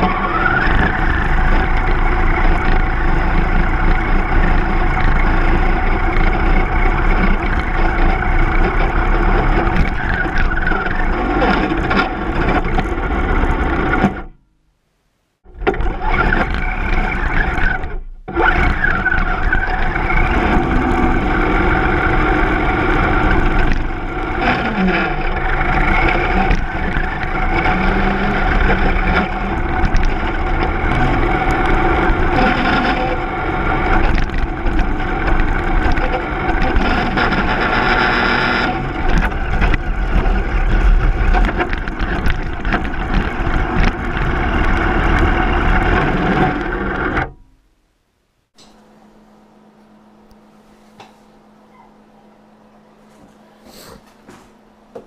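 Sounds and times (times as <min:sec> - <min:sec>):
electric motor and gears whining: 0:00.0 - 0:14.4, 0:15.5 - 0:47.4
tyre and chassis noise: 0:00.0 - 0:14.5, 0:15.4 - 0:51.6.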